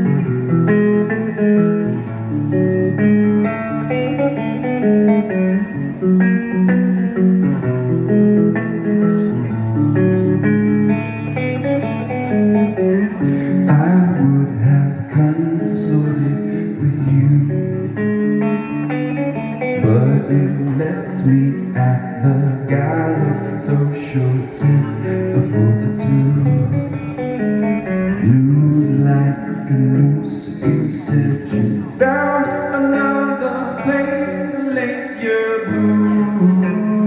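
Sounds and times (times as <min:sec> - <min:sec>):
plucked guitar notes: 0:00.0 - 0:37.0
sustained guitar chords: 0:00.0 - 0:37.0.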